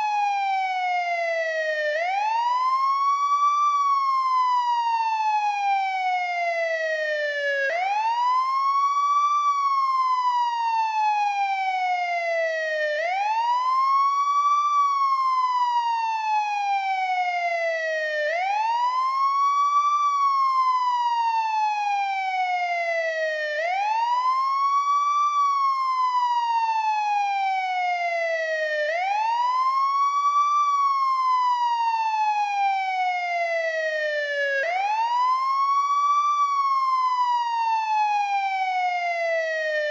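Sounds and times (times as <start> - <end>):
police car siren wailing: 0.0 - 39.9.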